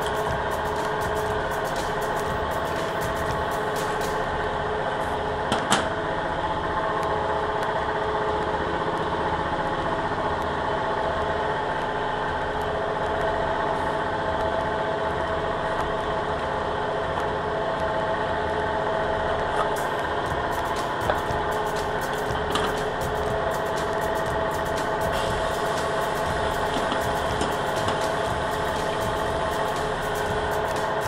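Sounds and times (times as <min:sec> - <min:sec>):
machinery droning: 0:00.0 - 0:31.0.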